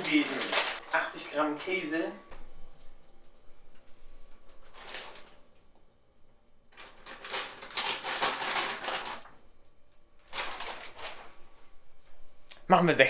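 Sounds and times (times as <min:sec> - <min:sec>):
rustling and scraping in kitchen: 0:00.0 - 0:05.8, 0:06.7 - 0:12.4.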